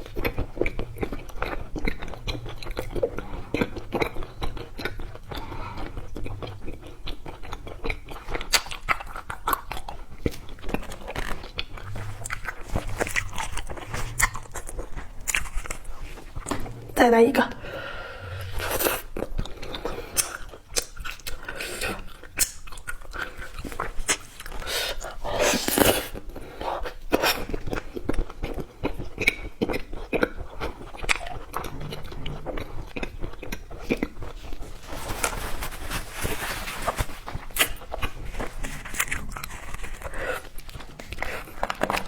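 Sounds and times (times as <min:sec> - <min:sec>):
chewing crunchy candies: 0:00.0 - 0:35.4, 0:37.2 - 0:42.0.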